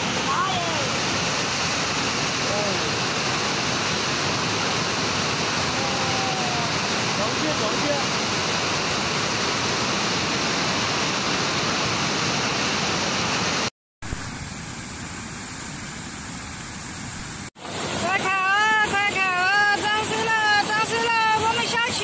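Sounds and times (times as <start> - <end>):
flood torrent rushing: 0.0 - 22.0.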